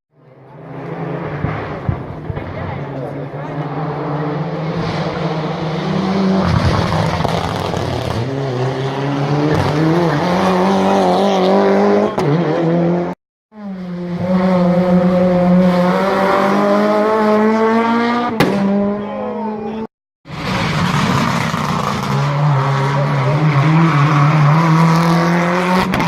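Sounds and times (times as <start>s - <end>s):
race car engines revving: 0.2s - 26.0s.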